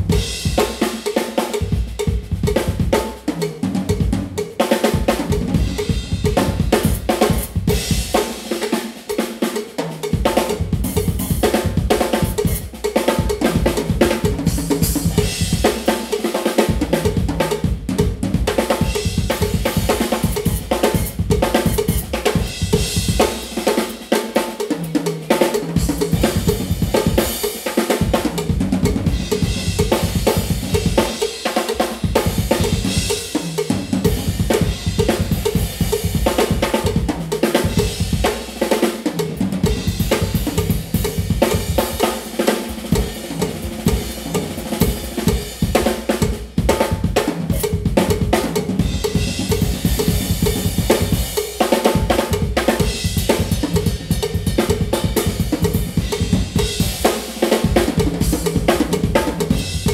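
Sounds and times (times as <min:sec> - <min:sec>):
drum kit solo: 0:00.0 - 0:59.9.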